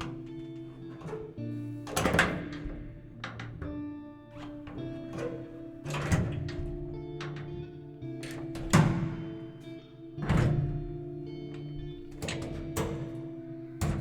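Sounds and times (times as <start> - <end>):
background music sustained notes: 0.0 - 14.0
heavy doors shutting: 0.0 - 14.0.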